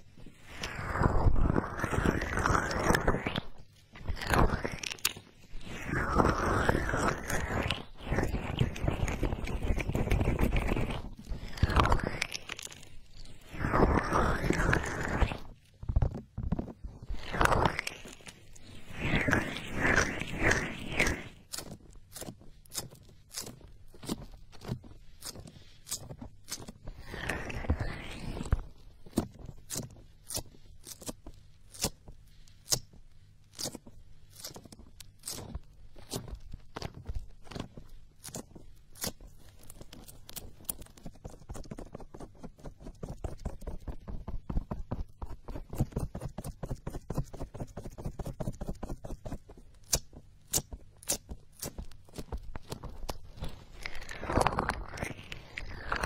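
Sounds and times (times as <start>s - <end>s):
fingertips rubbing microphone: 0.0s - 32.0s, 33.6s - 56.0s.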